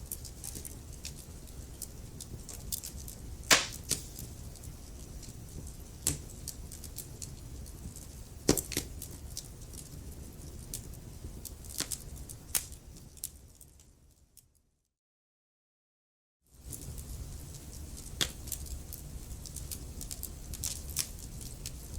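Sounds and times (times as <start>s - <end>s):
wood fire crackling and popping: 0.0s - 13.8s, 16.6s - 21.9s.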